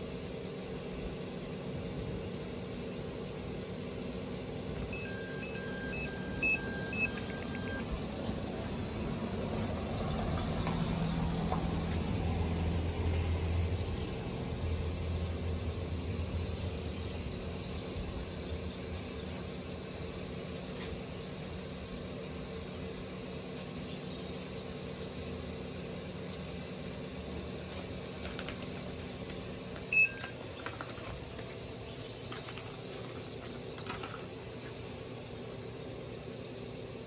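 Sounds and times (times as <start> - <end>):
low motor hum: 0.0 - 37.0.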